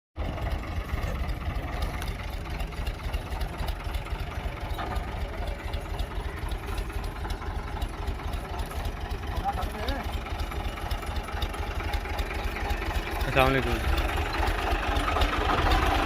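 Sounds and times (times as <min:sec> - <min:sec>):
tractor engine rumbling: 0:00.2 - 0:16.0.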